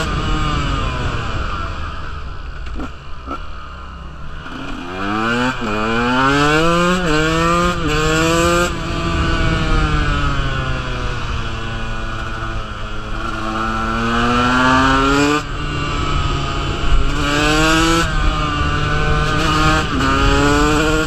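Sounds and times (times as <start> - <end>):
dirt bike engine accelerating: 0.0 - 21.0.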